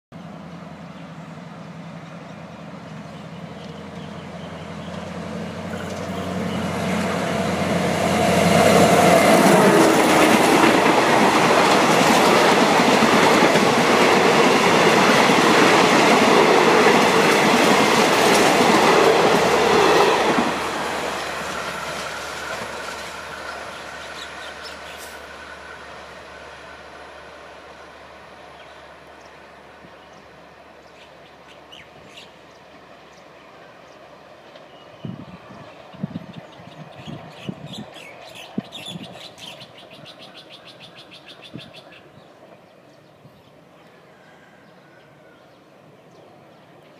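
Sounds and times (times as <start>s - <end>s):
diesel locomotive engine hum: 0.1s - 46.9s.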